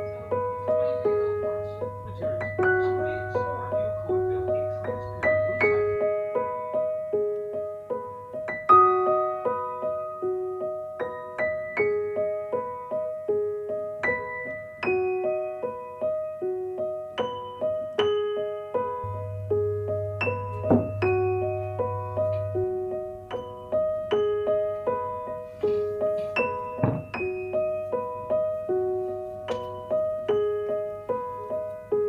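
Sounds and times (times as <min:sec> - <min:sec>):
soft piano music: 0:00.0 - 0:32.0.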